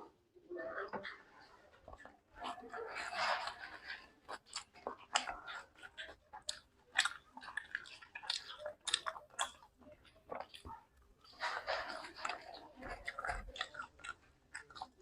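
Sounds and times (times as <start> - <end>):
chewing with mouth clicks: 0.9 - 15.0
lip smacks: 2.0 - 15.0.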